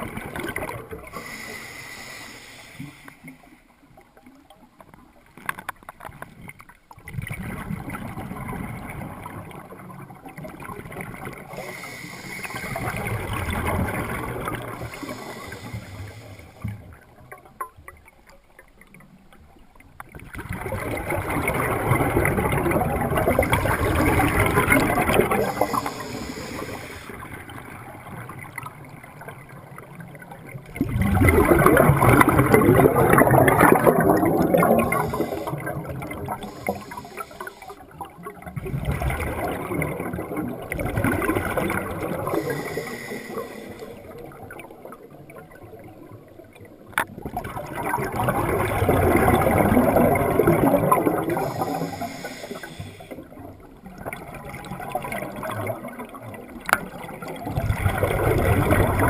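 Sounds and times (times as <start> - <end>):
sea water washing and gurgling: 0.0 - 59.0.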